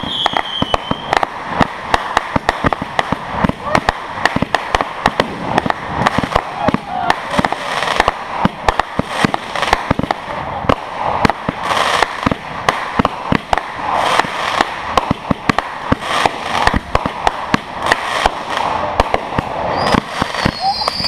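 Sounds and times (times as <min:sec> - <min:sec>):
crackle of sparks: 0:00.0 - 0:21.0
fireworks bangs: 0:00.0 - 0:21.0.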